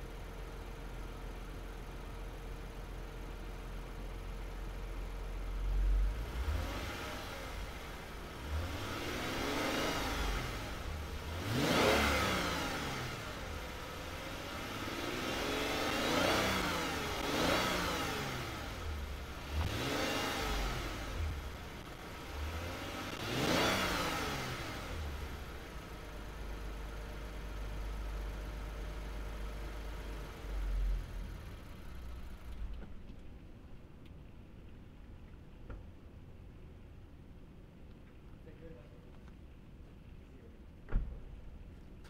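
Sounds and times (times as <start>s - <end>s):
car engine idling and revving: 0.0s - 38.6s.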